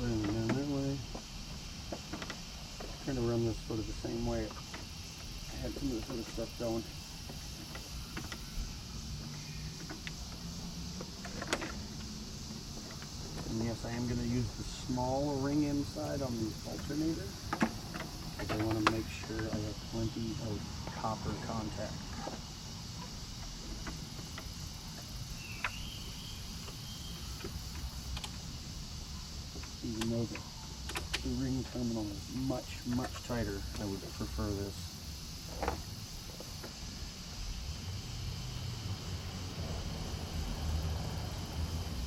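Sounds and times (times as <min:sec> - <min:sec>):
high hiss: 0:00.0 - 0:42.0.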